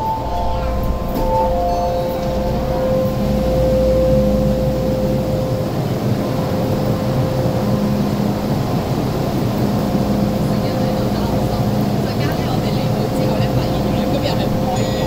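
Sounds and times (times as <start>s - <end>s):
low drone: 0.0s - 15.0s
train equipment hum and whine: 0.0s - 15.0s.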